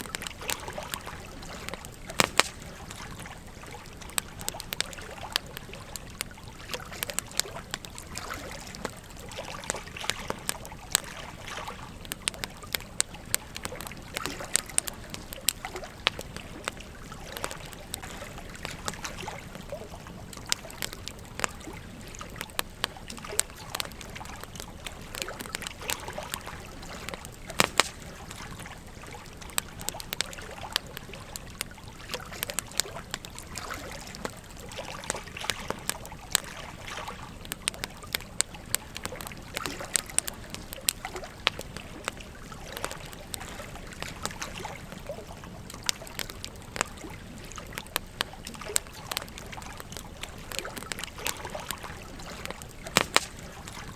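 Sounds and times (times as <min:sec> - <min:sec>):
campfire crackling and popping: 0:00.0 - 0:53.9
stream flowing: 0:00.0 - 0:53.9.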